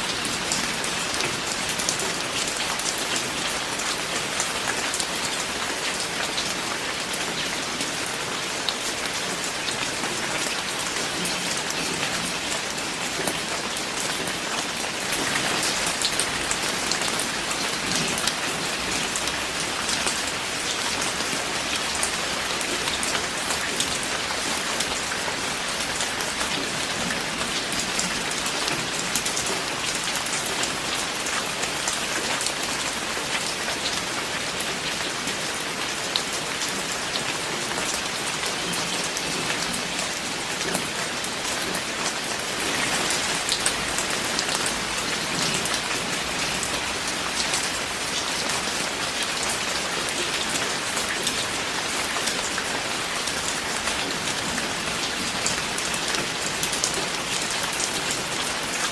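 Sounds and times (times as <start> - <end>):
heavy rain falling: 0.0 - 58.9
raindrops pattering on a surface: 0.0 - 58.9.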